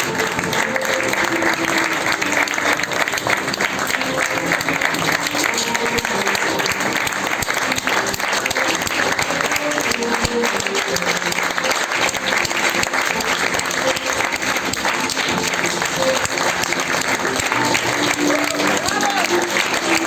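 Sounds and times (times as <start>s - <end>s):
audience applauding: 0.0s - 20.0s
music playing: 0.0s - 20.0s.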